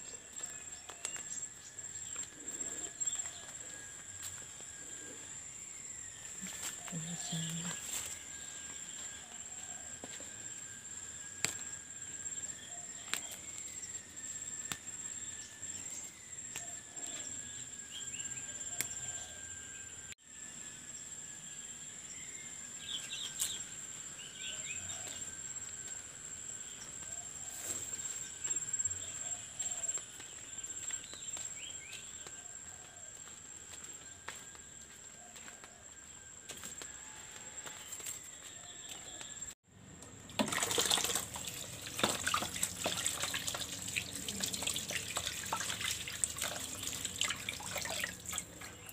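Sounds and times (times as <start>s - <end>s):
high-pitched insect trill: 0.0s - 39.6s, 40.4s - 48.9s.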